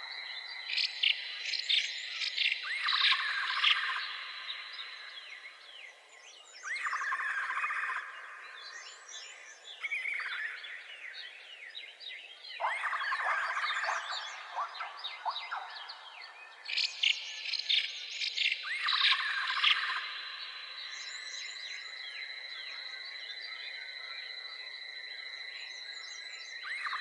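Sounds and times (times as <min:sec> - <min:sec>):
birds chirping and trilling: 0:00.0 - 0:27.0.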